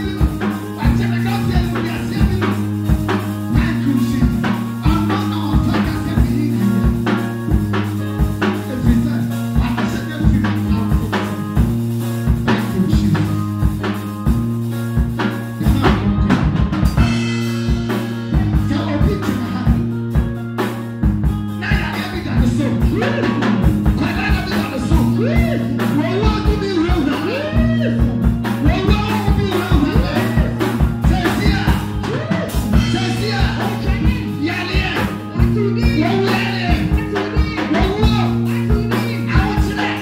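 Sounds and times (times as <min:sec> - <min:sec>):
church band music: 0:00.0 - 0:40.0
drum kit beat: 0:00.0 - 0:40.0
held keyboard notes: 0:00.0 - 0:40.0.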